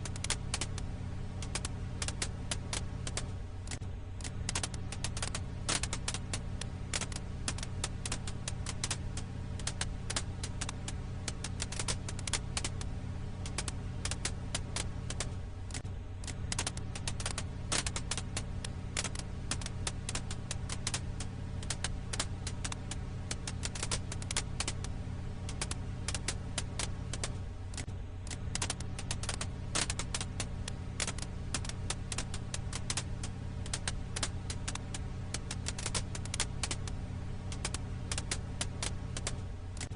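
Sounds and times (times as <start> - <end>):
campfire crackling: 0.0 - 39.9
low hum: 0.0 - 39.9.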